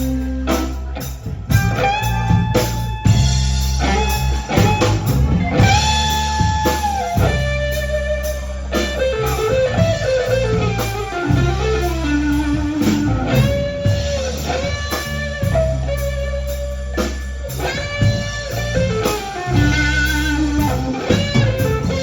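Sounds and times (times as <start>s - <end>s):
bass and drums: 0.0s - 22.0s
electric guitar lead with bent notes: 0.0s - 22.0s.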